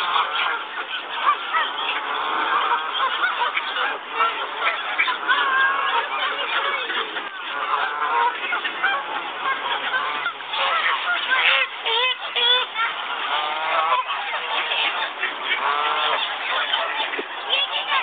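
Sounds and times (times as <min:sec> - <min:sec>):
flock of waterfowl calling: 0:00.0 - 0:18.0.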